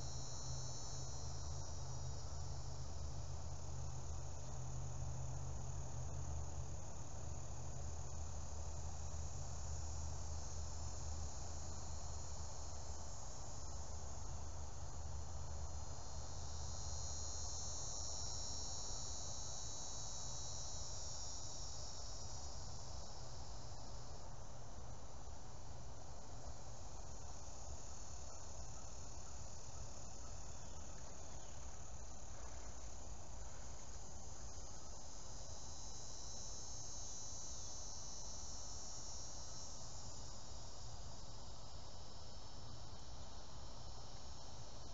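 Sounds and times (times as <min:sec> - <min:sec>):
insects trilling: 0:00.0 - 0:44.9.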